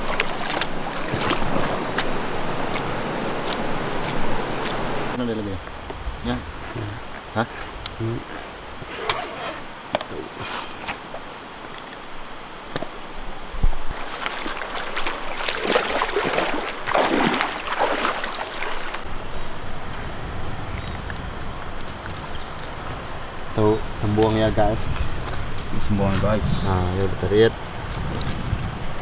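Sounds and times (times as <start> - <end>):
crickets chirring: 0.0 - 29.0
pulsing insect buzz: 0.0 - 29.0.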